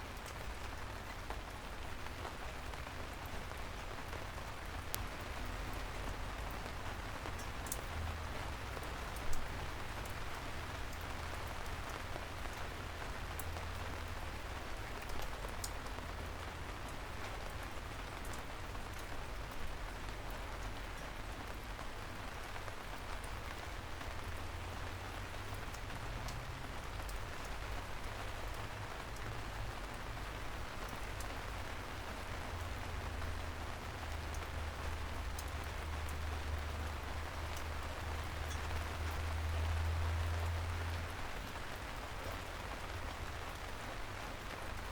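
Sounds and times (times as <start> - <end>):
soft rain on a street: 0.0 - 44.9.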